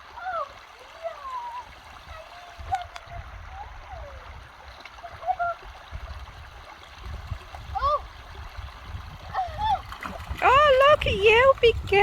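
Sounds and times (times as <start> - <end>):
stream babbling over stones: 0.0 - 12.0.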